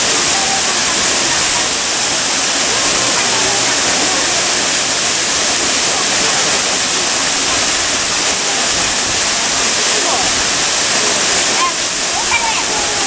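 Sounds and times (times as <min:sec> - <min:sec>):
waterfall crashing into pool: 0:00.0 - 0:13.0.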